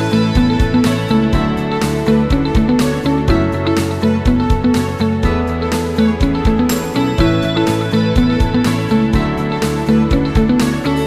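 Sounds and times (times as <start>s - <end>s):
music with plucked strings: 0.0s - 11.0s.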